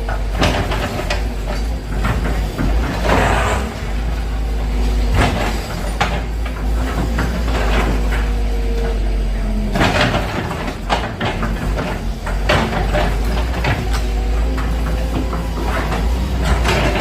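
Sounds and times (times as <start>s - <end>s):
demolition knocks and crunches: 0.0s - 17.0s
excavator engine rumbling: 0.0s - 17.0s.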